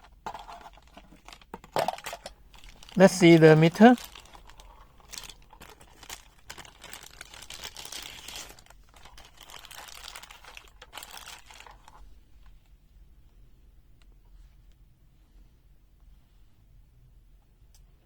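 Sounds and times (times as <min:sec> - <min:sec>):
crinkling and rustling handling: 0:00.0 - 0:15.4.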